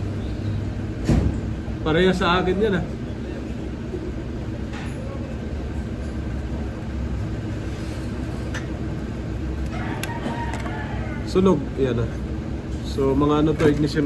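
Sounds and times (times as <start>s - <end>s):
low mechanical rumble: 0.0s - 14.0s.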